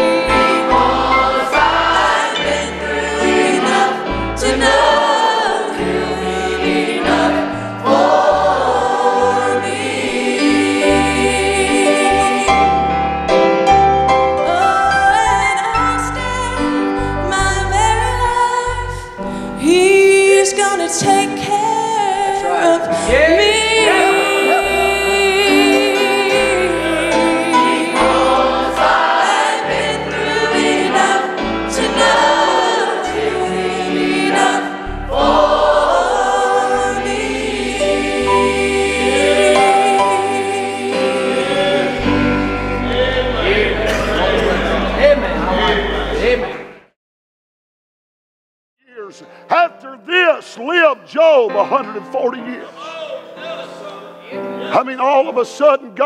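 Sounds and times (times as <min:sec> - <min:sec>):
instrumental accompaniment: 0:00.0 - 0:46.7
choir singing gospel: 0:00.0 - 0:46.8, 0:49.0 - 0:56.0.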